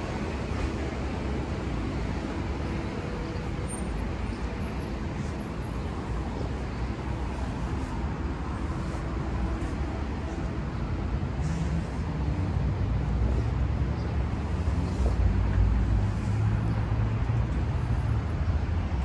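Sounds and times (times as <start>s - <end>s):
busy city road traffic rumble: 0.0s - 19.0s.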